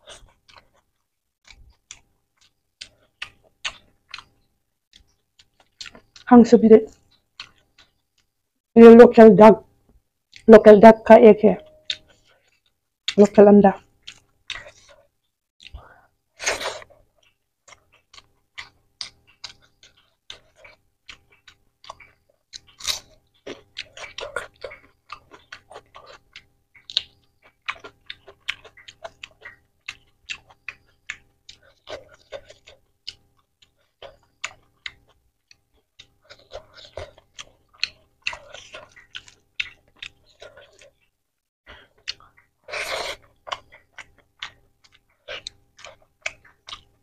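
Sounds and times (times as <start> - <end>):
wet chewing clicks and smacks: 0.0 - 8.4, 11.8 - 47.0.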